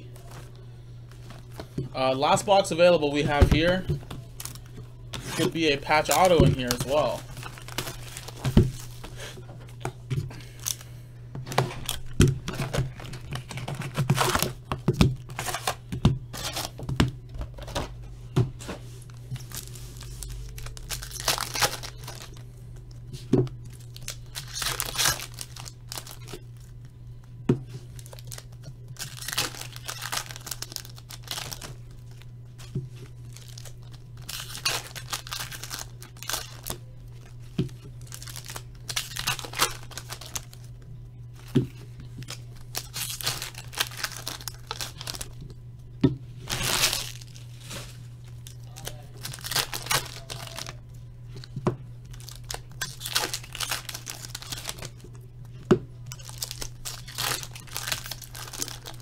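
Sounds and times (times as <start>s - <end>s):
steady low hum: 0.0s - 59.0s
wrappers ripping and crinkling: 1.1s - 9.4s, 10.3s - 16.8s, 18.6s - 26.8s, 27.7s - 40.8s, 41.4s - 45.5s, 46.4s - 59.0s.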